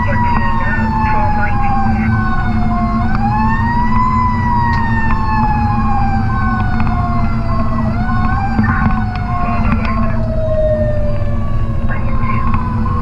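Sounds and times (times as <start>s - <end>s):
diesel engine rumble: 0.0s - 13.0s
fire truck siren wailing: 0.0s - 13.0s
road noise: 0.0s - 13.0s.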